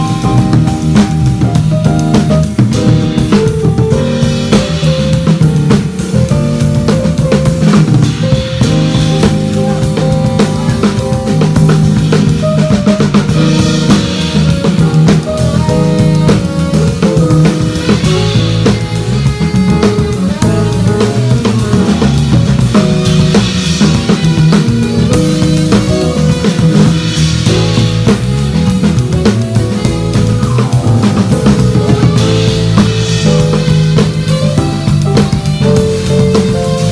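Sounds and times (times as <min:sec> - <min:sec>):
drum kit beat: 0:00.0 - 0:36.9
electric bass line: 0:00.0 - 0:36.9
live band playing funk: 0:00.0 - 0:36.9.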